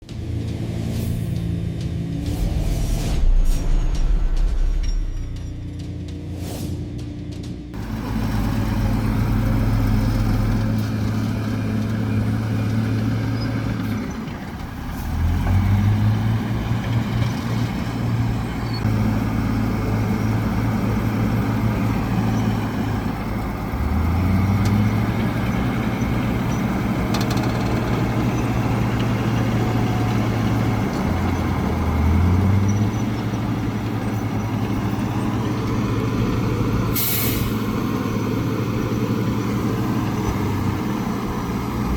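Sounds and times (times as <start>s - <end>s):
heavy diesel engine revving: 6.9s - 41.9s.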